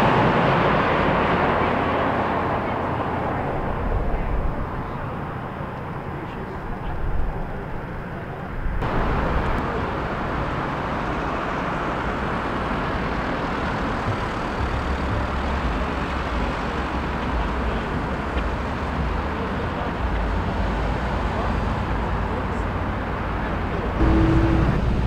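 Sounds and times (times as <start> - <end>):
cars driving past: 0.0 - 25.0.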